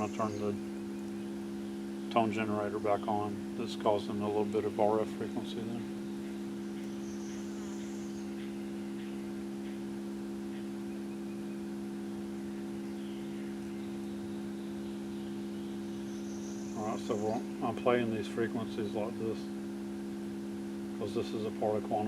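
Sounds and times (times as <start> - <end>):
continuous low tone hum: 0.0 - 22.0.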